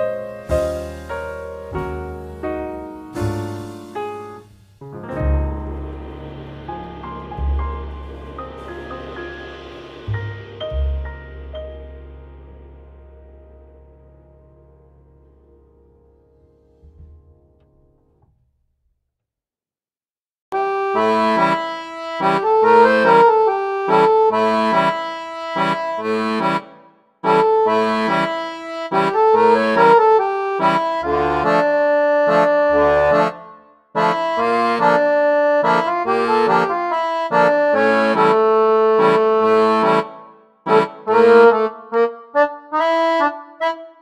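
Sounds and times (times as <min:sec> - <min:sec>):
instrumental music with repeated chords: 0:00.0 - 0:18.2, 0:20.5 - 0:44.0.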